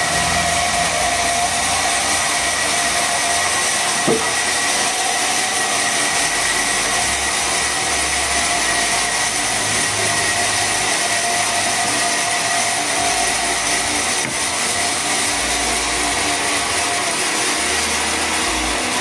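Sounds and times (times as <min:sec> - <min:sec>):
sawmill saw running: 0:00.0 - 0:19.0.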